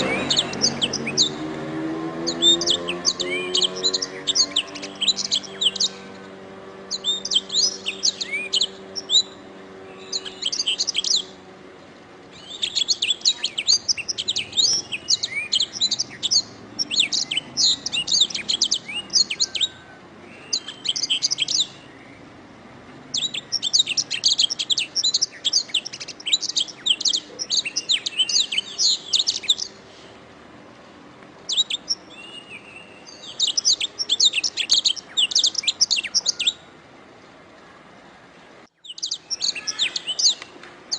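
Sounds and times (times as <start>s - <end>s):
canary singing: 0.0s - 22.4s, 23.0s - 30.0s, 31.5s - 36.7s, 38.8s - 40.9s.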